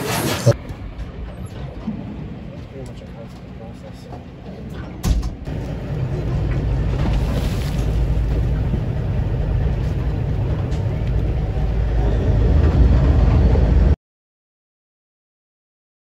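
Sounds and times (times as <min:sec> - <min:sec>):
boat engine and water rumble: 0:00.0 - 0:14.0.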